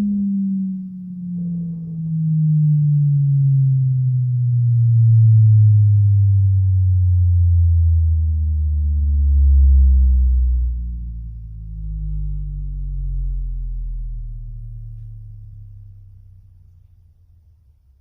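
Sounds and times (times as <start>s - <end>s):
low test tone sliding down: 0.0s - 18.0s.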